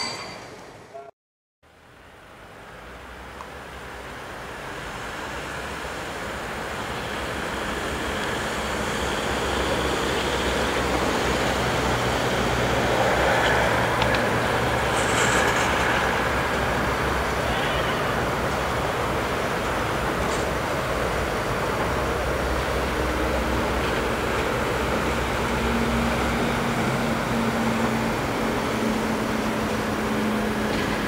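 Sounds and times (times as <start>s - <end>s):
electric locomotive rumble and hum: 2.6s - 31.0s.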